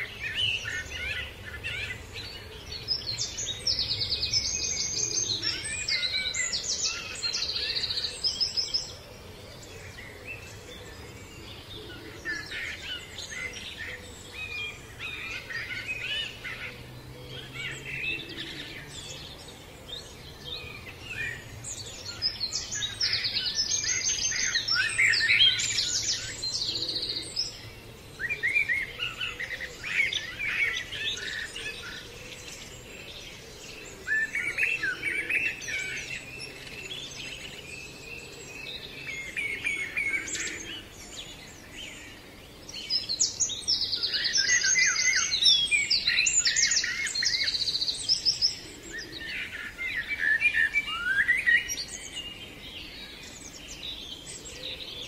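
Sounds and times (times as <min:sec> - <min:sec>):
songbirds singing and calling: 0:00.0 - 0:55.0.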